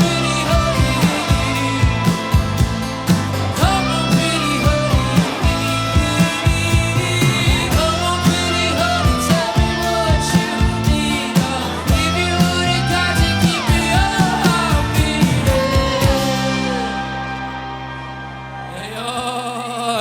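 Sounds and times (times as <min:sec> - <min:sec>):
drums keeping steady beat: 0:00.0 - 0:16.8
bass guitar: 0:00.0 - 0:20.0
sliding lead guitar line: 0:00.0 - 0:20.0.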